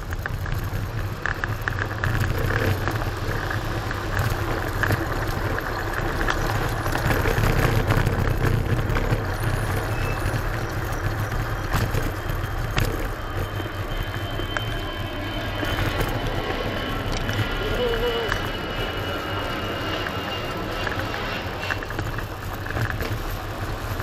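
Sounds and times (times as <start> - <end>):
traffic and road noise: 0.0 - 24.0.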